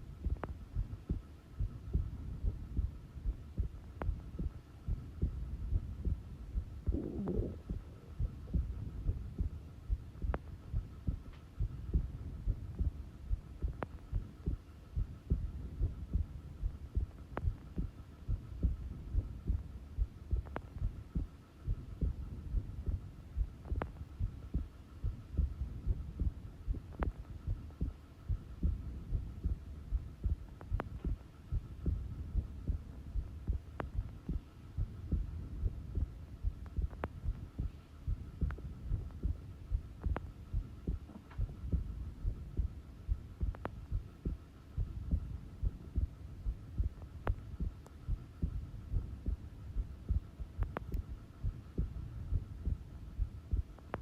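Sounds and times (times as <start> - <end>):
heartbeat thumps: 0.0 - 54.0.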